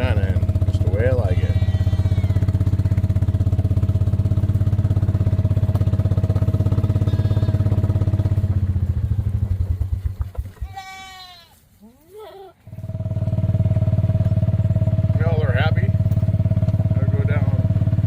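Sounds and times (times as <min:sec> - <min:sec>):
engine idling: 0:00.0 - 0:10.5, 0:12.7 - 0:18.0.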